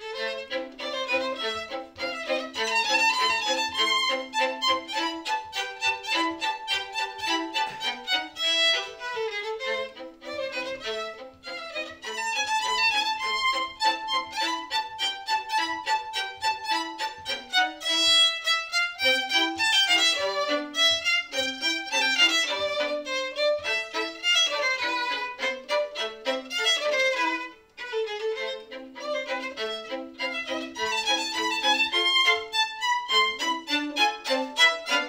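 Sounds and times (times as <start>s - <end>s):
violin duet: 0.0s - 35.0s.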